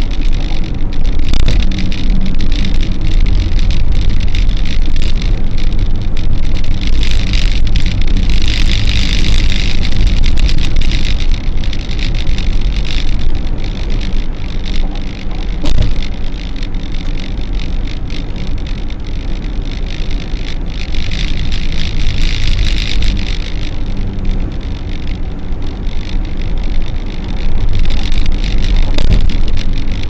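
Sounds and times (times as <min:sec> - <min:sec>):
tyre and engine rumble: 0:00.0 - 0:30.0.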